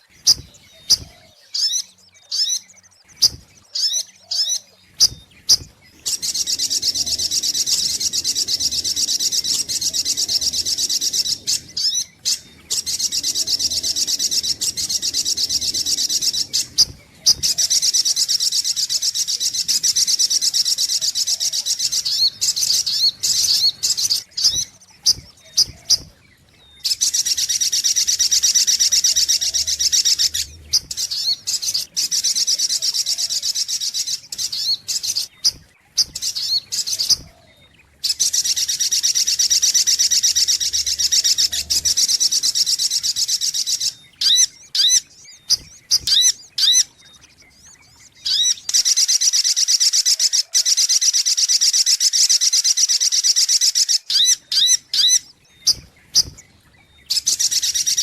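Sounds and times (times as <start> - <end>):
bird trilling: 0.0 - 56.4.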